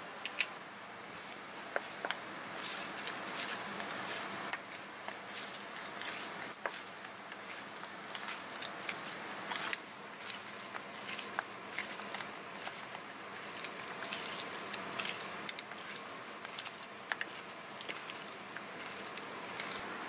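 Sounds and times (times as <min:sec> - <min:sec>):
faint steady hiss: 0:00.0 - 0:20.0
wet squelches of intestines: 0:02.6 - 0:20.0.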